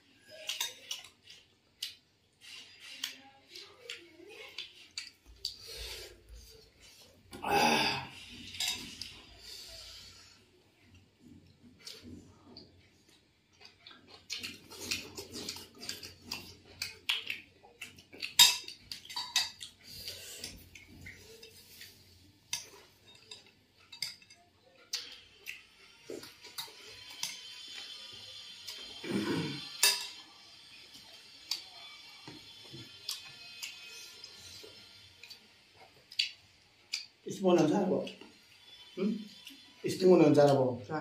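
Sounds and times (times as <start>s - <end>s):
people chewing and lip-smacking: 0.0s - 7.4s, 8.1s - 37.3s, 38.0s - 39.8s.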